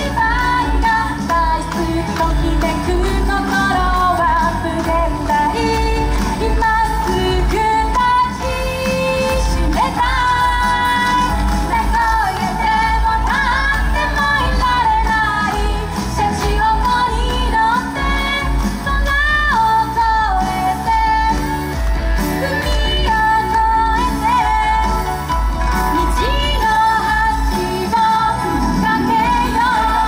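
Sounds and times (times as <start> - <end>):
woman singing pop song: 0.0 - 30.0.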